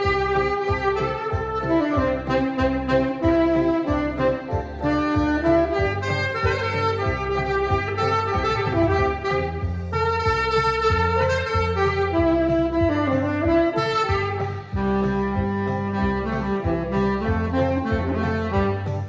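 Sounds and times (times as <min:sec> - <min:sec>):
accompaniment with steady bass: 0:00.0 - 0:19.0
saxophone melody: 0:00.0 - 0:19.0.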